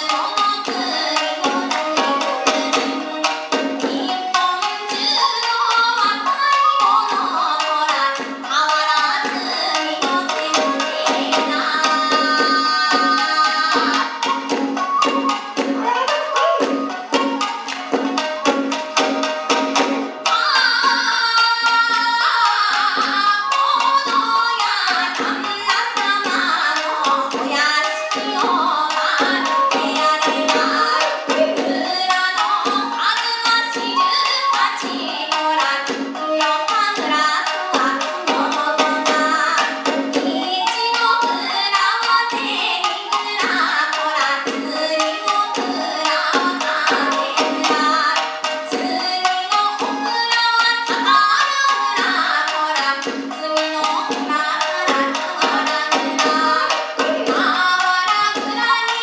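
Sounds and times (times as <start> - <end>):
woman singing folk song: 0.0 - 15.1, 20.3 - 59.0
plucked strings flute and drum: 0.0 - 59.0.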